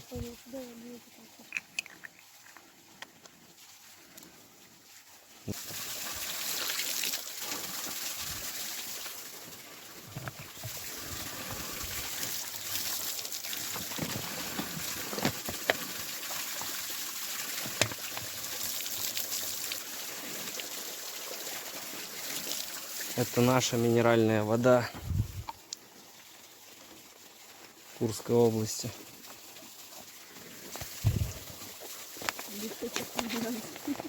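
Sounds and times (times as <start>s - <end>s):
water running and splashing: 0.0s - 34.0s.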